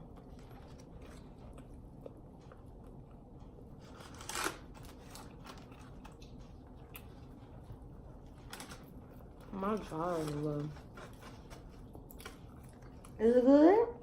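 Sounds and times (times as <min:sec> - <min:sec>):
faint chewing and biting: 0:00.0 - 0:13.2.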